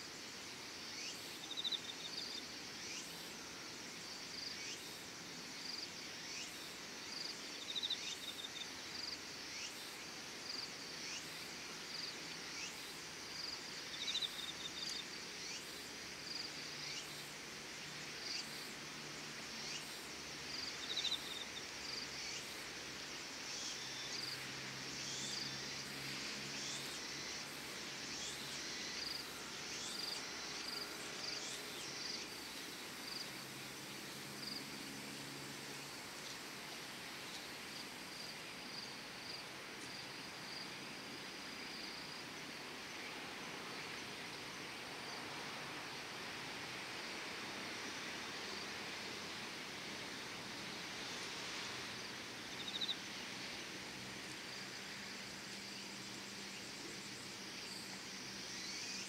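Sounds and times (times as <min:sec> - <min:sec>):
insects chirping: 0:00.0 - 0:59.0
outdoor ambience hiss: 0:00.0 - 0:59.0.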